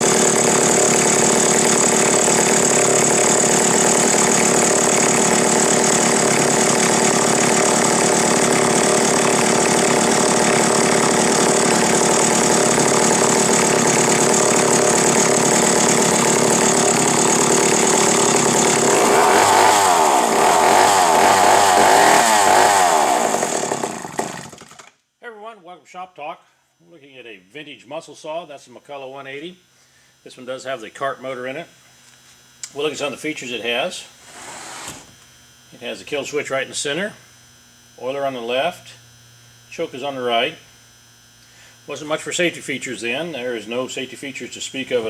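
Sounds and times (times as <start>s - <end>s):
chainsaw running: 0.0s - 25.0s, 32.0s - 45.0s.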